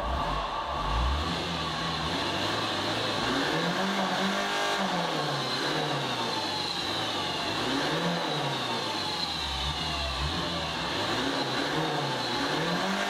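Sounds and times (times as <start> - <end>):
diesel van engine revving: 0.0 - 13.0.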